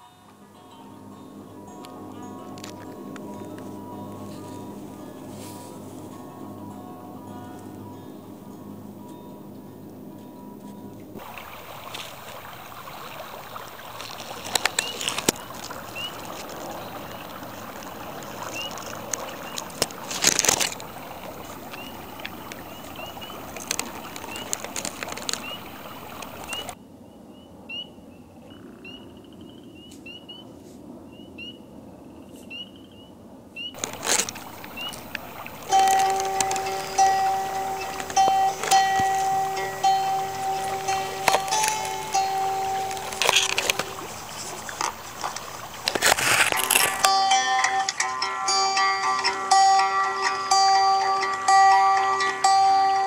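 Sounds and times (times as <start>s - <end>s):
steady hiss: 0.0s - 9.4s, 11.2s - 26.8s, 33.8s - 53.0s.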